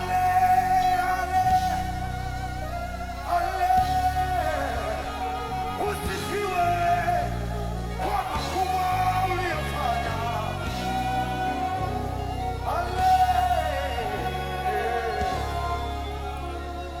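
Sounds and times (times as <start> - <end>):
person singing: 0.0 - 17.0
sustained bass notes: 0.0 - 17.0.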